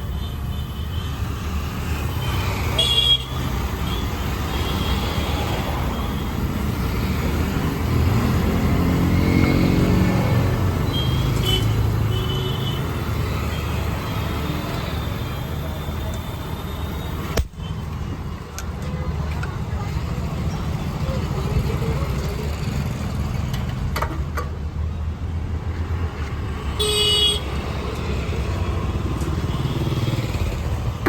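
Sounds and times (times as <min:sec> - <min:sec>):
traffic engines rumbling: 0:00.0 - 0:31.0.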